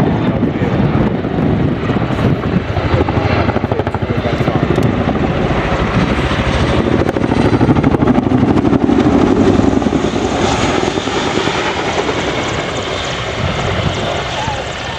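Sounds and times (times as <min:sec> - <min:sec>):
helicopter passing overhead: 0:00.0 - 0:14.9.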